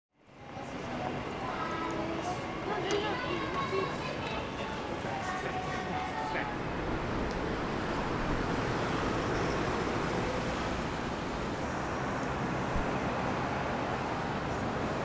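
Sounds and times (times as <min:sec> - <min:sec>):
busy city road traffic: 0:00.2 - 0:15.0.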